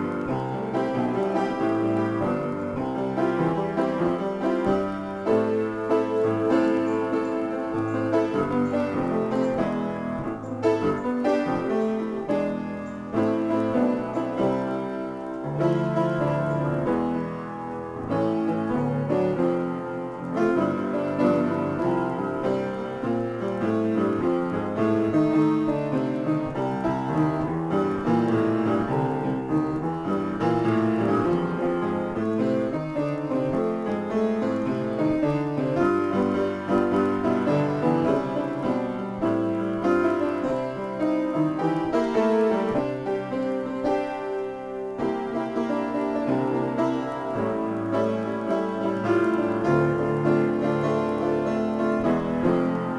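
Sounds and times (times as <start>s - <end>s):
solo upright piano: 0.0s - 52.9s.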